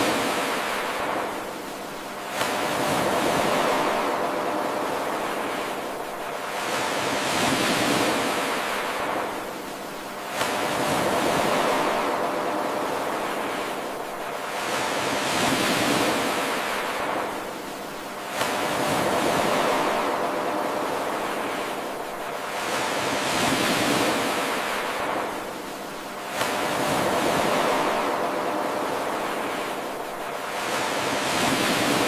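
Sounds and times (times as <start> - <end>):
ocean surf washing in: 0.0 - 32.0.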